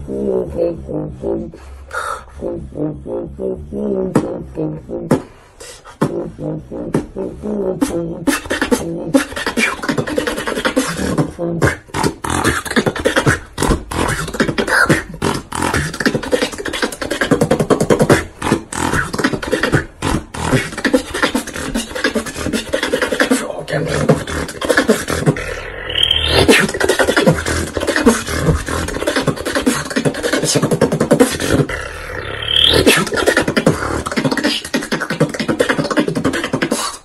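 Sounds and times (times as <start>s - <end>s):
person beatboxing: 0.0s - 37.0s.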